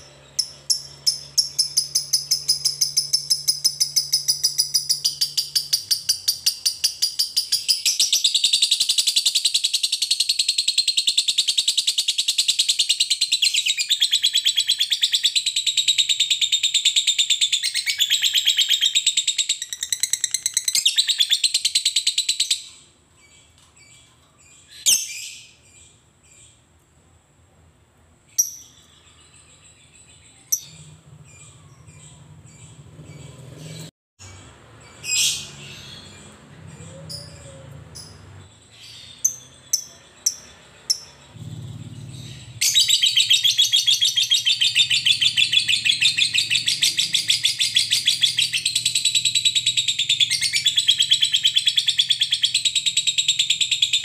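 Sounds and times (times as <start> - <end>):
bird sharp chirps: 0.0 - 26.6, 28.3 - 54.0.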